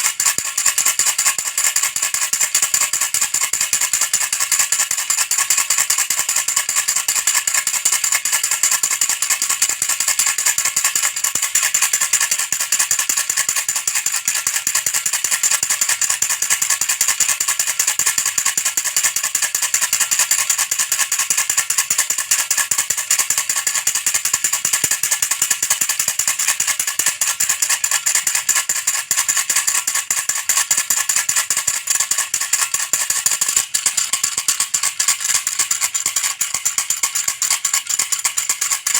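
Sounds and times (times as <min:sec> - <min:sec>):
baby rattle shaken fast: 0:00.0 - 0:38.9.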